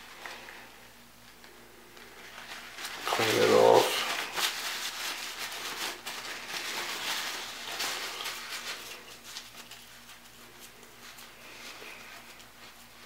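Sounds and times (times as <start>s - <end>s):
paper towel crinkling: 0.0s - 13.0s.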